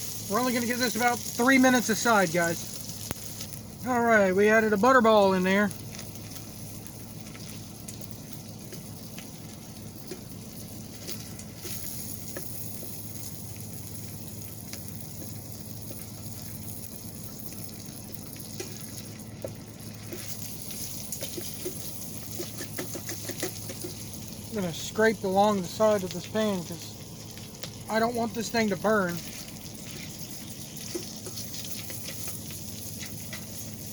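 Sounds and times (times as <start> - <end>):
steady low hum: 0.0 - 33.9
steak sizzling in oil: 0.0 - 33.9.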